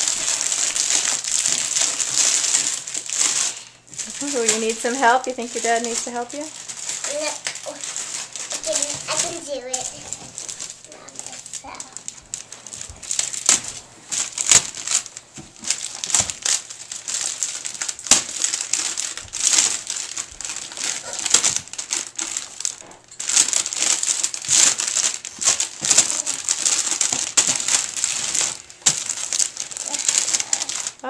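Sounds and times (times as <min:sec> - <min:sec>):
foil gift wrap crinkling: 0:00.0 - 0:31.0.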